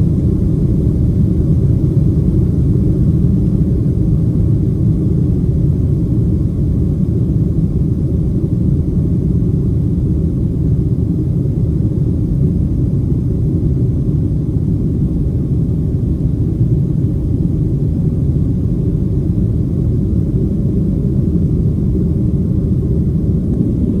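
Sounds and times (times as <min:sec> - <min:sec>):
jet engine rumble in cabin: 0:00.0 - 0:24.0.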